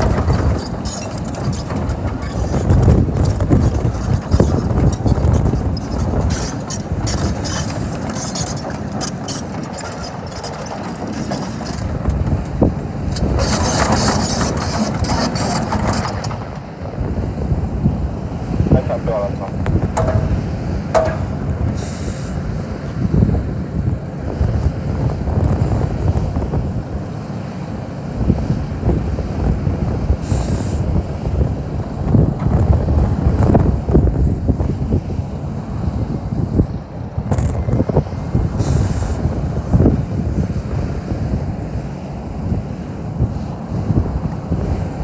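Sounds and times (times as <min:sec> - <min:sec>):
excavator diesel engine running: 0:00.0 - 0:45.0
wind buffeting microphone: 0:00.0 - 0:45.0.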